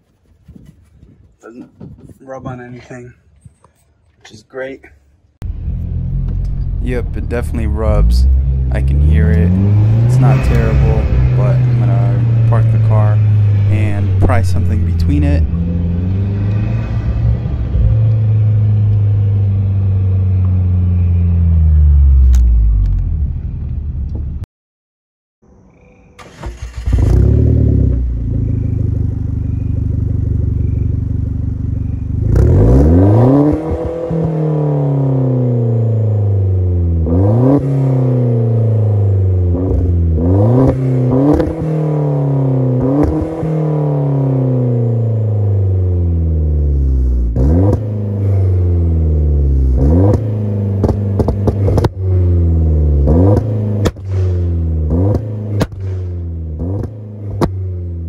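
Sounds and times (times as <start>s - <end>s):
car engine idling and revving: 5.4s - 24.4s, 26.2s - 58.0s.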